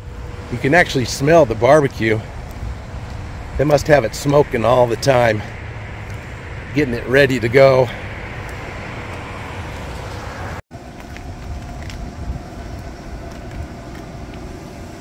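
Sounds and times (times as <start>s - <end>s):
road traffic rumble and hiss: 0.0s - 15.0s
steady machine hum: 0.0s - 15.0s.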